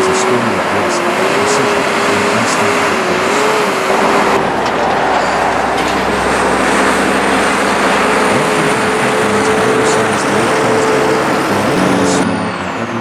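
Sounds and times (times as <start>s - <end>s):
heavy vehicle running: 0.0s - 13.0s
steady whine: 0.0s - 13.0s.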